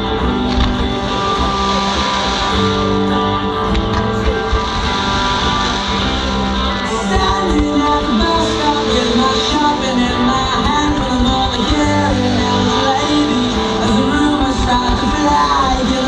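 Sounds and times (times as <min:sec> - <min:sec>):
strummed guitar music: 0:00.0 - 0:16.0.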